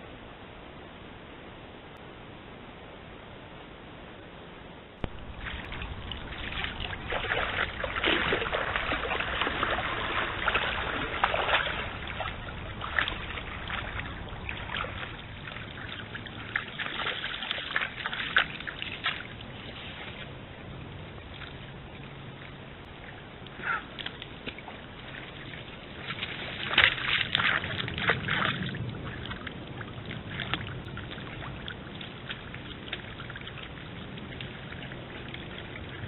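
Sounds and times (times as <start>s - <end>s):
deer splashing through water: 5.1s - 36.0s.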